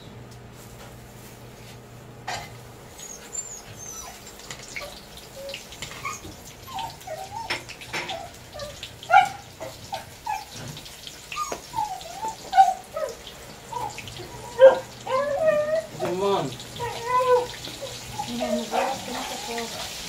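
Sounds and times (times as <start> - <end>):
deep-frying in bubbling oil: 2.9 - 20.0.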